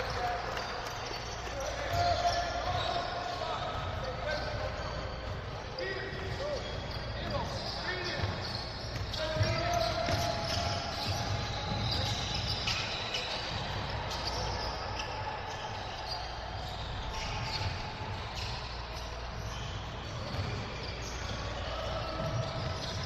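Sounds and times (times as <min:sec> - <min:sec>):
basketball bouncing on court: 0:00.0 - 0:23.0
voices of players and spectators: 0:00.0 - 0:23.0.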